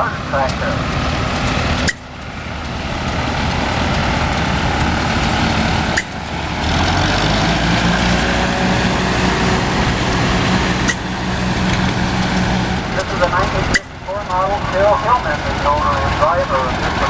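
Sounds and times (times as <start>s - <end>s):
tractor engine driving past: 0.0s - 17.0s.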